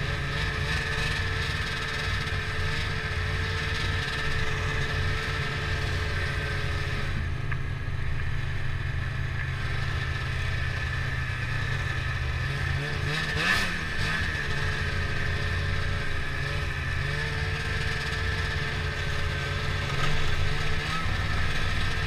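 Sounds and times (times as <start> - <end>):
snowmobile engine droning: 0.0 - 22.0.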